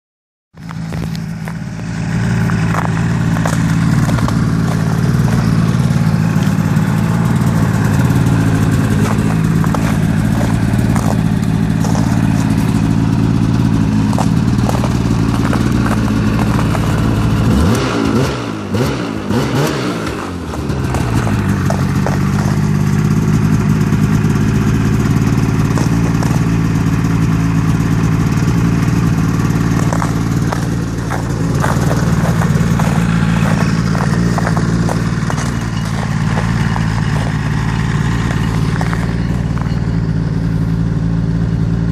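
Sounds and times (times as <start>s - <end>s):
snowmobile engine running: 0.6s - 41.9s.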